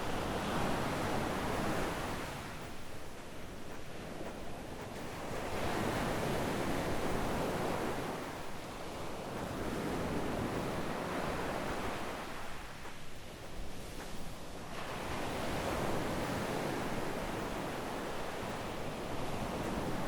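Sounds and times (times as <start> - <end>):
small waves breaking on sand: 0.0 - 20.0
wind on microphone: 0.0 - 20.0.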